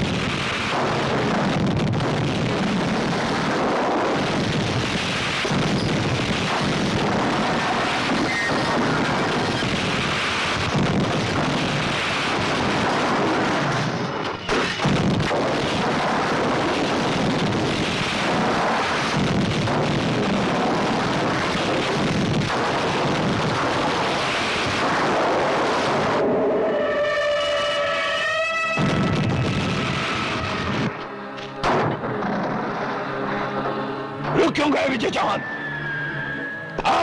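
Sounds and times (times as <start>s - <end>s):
explosions: 0.0s - 26.6s, 28.7s - 33.3s
fire burning: 0.0s - 33.7s.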